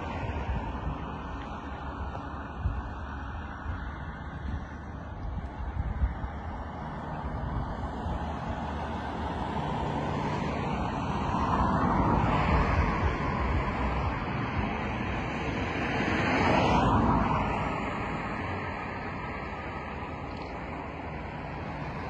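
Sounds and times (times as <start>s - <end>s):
low rumble of outdoor air: 0.0s - 22.0s
vehicles passing: 0.0s - 22.0s.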